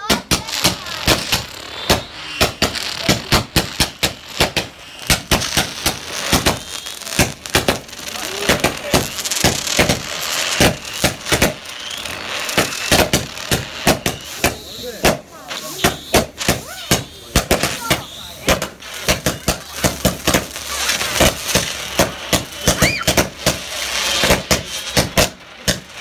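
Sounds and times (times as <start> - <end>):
fireworks bangs: 0.0 - 26.0
fireworks hissing: 0.0 - 26.0.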